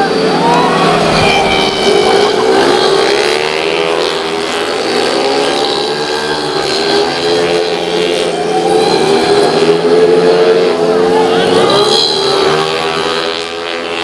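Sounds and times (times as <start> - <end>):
scooter engines revving: 0.0 - 14.0.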